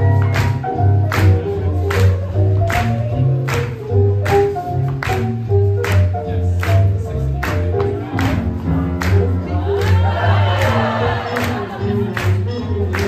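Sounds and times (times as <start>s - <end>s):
upbeat swing jazz music: 0.0s - 13.0s.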